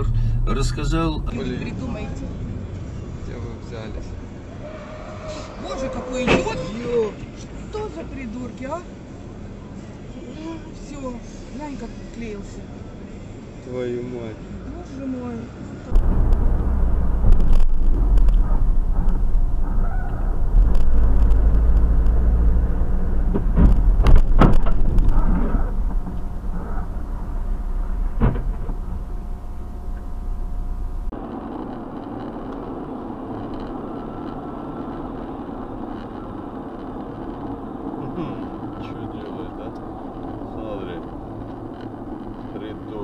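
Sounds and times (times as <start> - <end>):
road and engine rumble: 0.0 - 43.0
road noise: 0.0 - 43.0.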